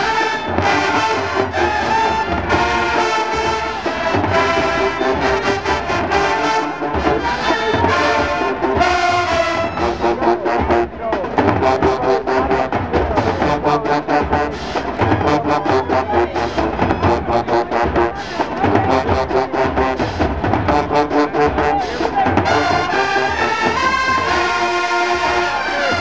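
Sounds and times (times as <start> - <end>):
marching band brass and drums: 0.0 - 26.0.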